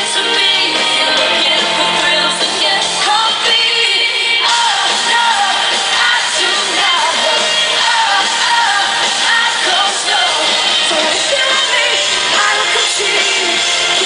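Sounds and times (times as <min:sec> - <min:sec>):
pop-rock band playing: 0:00.0 - 0:14.0
woman singing into a microphone: 0:00.0 - 0:14.0.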